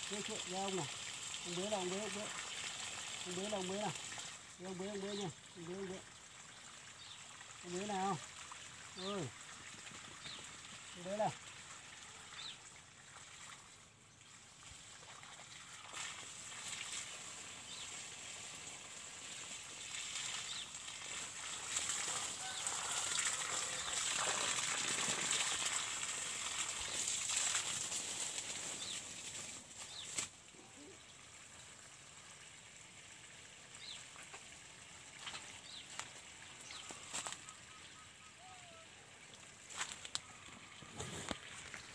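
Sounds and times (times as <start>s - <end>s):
garden hose spraying water: 0.0s - 41.9s.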